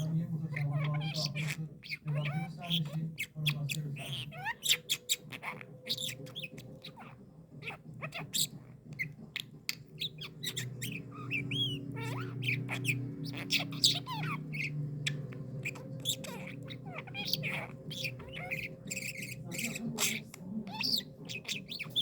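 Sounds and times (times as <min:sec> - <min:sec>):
lovebird chirping and squeaking: 0:00.0 - 0:22.0.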